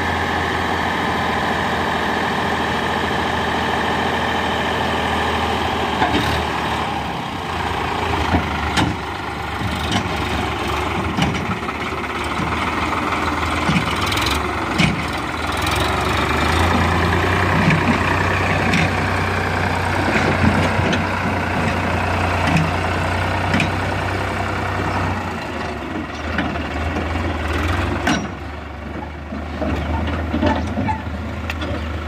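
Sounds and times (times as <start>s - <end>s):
tractor diesel engine droning: 0.0s - 32.0s.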